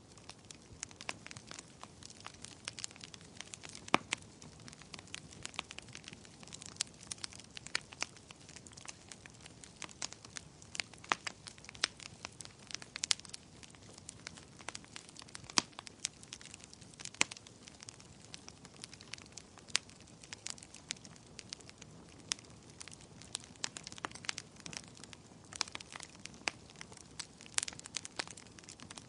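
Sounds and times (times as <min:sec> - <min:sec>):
fire crackling in a fireplace: 0:00.0 - 0:29.0.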